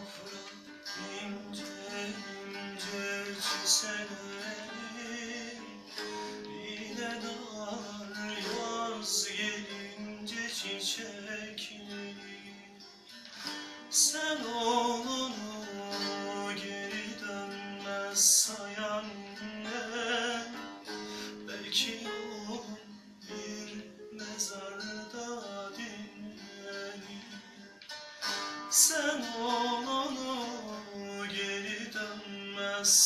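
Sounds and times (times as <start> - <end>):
classical guitar playing: 0.0 - 33.0
man singing: 0.0 - 33.0.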